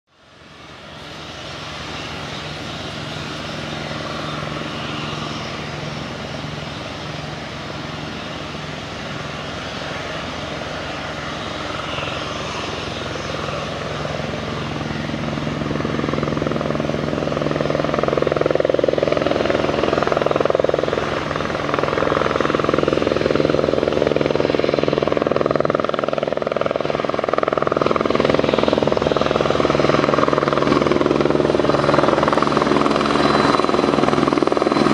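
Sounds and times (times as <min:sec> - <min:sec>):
helicopter rotor and engine: 0:00.1 - 0:34.9.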